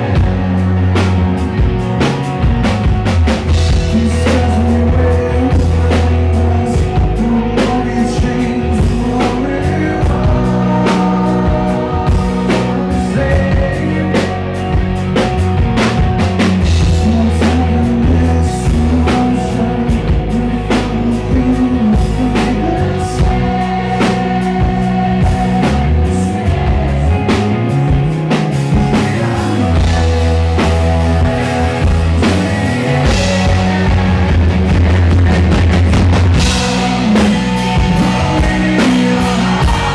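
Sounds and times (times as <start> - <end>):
live rock band playing: 0.0 - 39.9
man singing into microphone: 3.7 - 14.8, 16.8 - 39.9.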